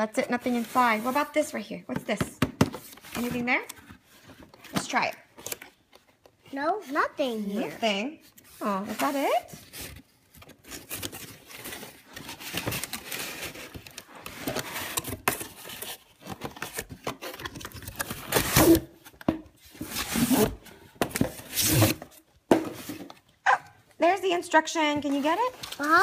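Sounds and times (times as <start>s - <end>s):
cardboard rustling and scraping: 0.0s - 23.3s, 24.8s - 26.0s.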